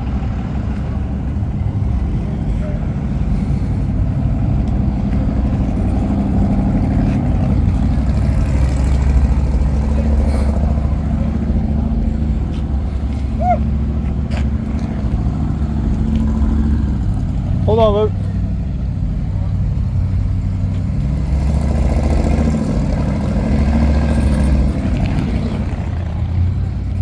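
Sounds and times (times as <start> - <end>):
vehicle engine running steadily: 0.0 - 27.0.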